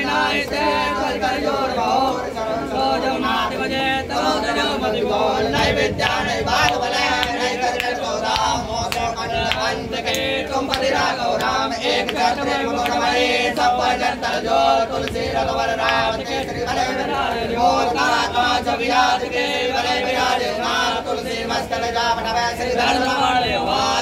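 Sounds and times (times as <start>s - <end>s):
men chanting a hymn: 0.0s - 24.0s.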